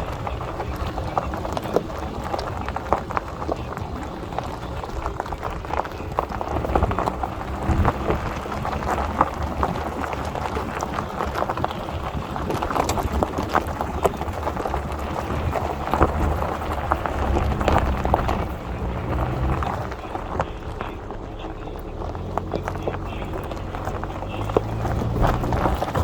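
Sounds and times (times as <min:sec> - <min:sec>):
engine running at low revs: 0:00.0 - 0:26.0
tyres crunching on loose ground: 0:00.0 - 0:26.0.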